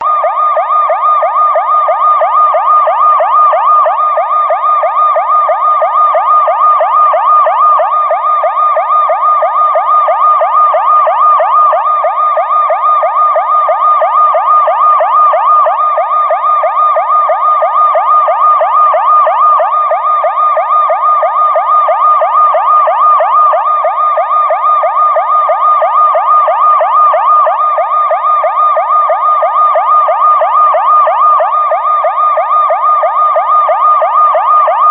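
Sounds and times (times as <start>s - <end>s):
reversed police siren yelp: 0.0s - 34.9s.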